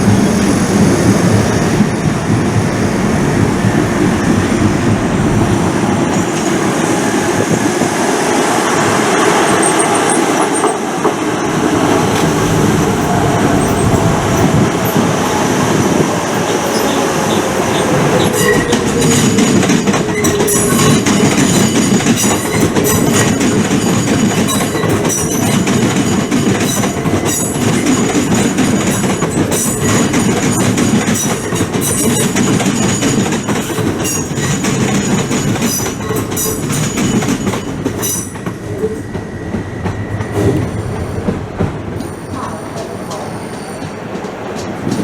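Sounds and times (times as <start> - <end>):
train rumbling past: 0.0 - 45.0.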